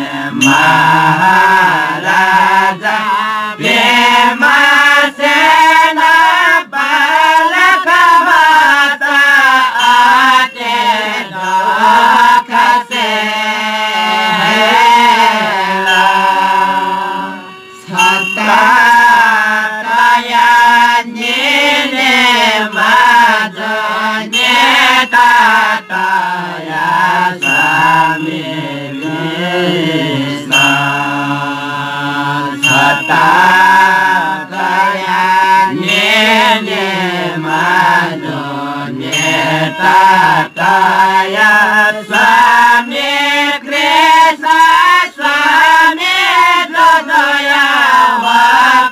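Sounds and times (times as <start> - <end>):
group chanting folk song: 0.0 - 48.9
harmonium: 0.0 - 48.9
small cymbals: 0.0 - 48.9.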